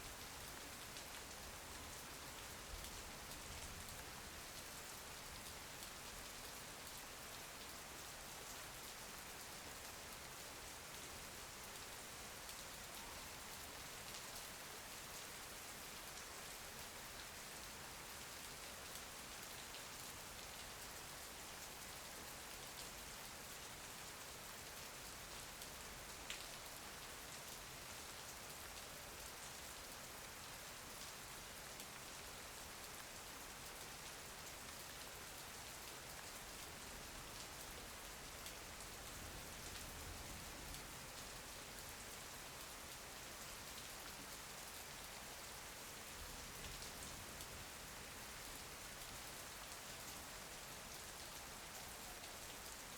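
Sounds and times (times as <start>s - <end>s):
faint rain hiss: 0.0s - 52.9s.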